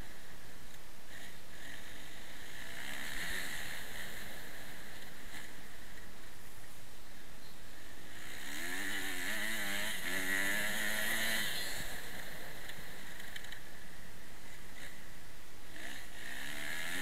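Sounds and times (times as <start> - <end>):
motorbike engine revving: 1.1 - 6.0, 7.8 - 17.0.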